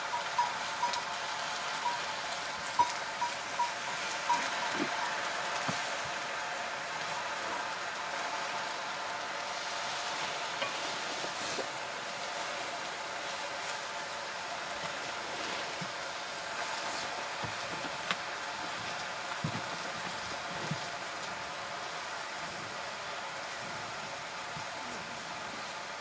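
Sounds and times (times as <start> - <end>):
greens sizzling in a pan: 0.0 - 26.0.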